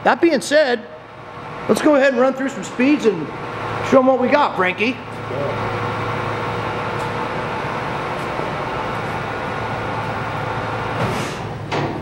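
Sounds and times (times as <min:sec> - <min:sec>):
lathe motor hum: 0:01.0 - 0:11.0
gear whine: 0:01.2 - 0:11.0.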